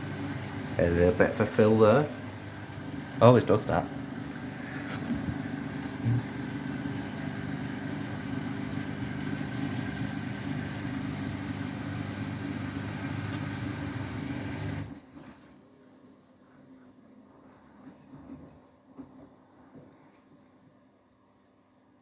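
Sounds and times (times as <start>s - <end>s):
washing machine low hum: 0.0s - 21.4s.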